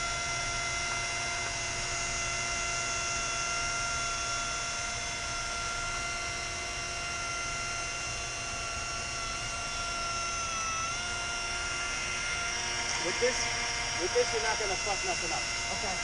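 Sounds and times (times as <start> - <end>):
electric glass polisher whining: 0.0 - 16.0.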